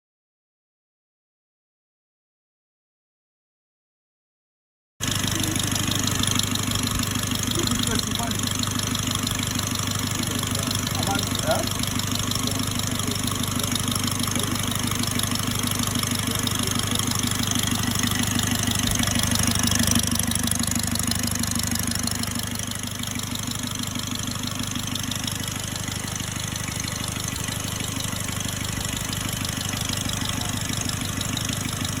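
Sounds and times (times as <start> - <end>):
engine idling: 5.0 - 32.0.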